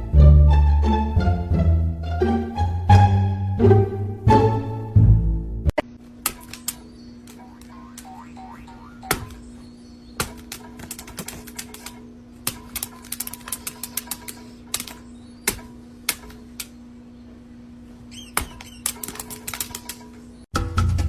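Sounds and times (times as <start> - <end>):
steady low hum: 3.6 - 20.5.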